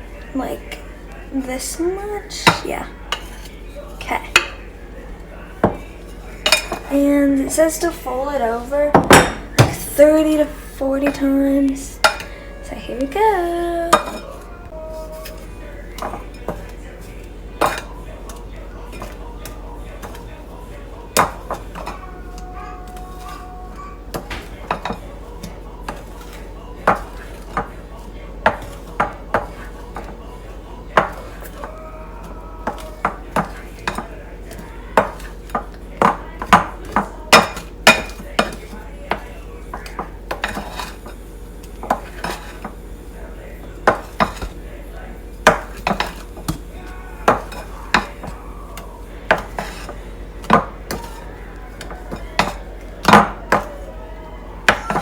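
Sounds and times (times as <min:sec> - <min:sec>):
utensil scraping a mixing bowl: 0:02.3 - 0:55.0.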